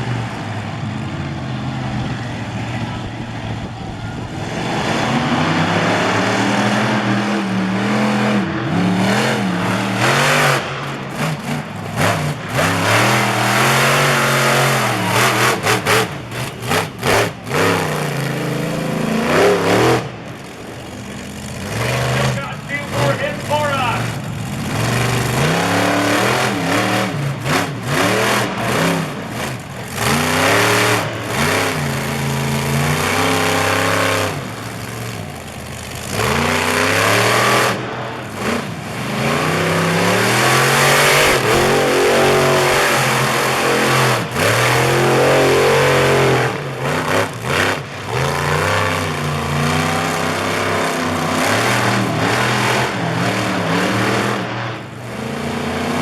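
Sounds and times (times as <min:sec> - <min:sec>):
monster truck engine revving: 0:00.0 - 0:56.0.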